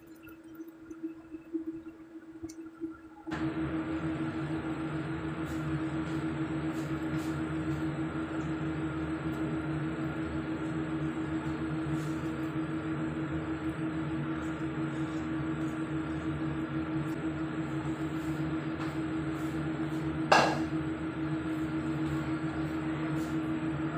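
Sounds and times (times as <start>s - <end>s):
steady machine hum: 0.0s - 23.9s.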